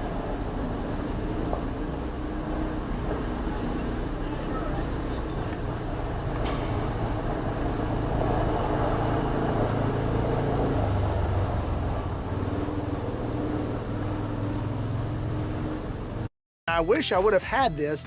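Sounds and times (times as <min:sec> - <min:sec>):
truck engine humming: 0:00.0 - 0:18.0.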